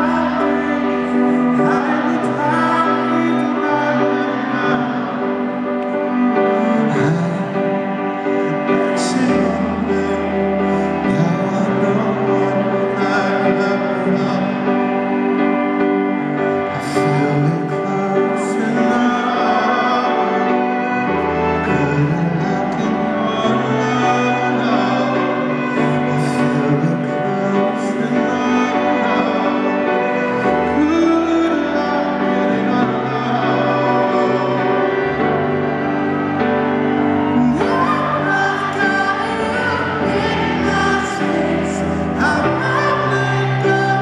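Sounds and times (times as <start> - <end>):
live ballad with singing: 0.0 - 44.0.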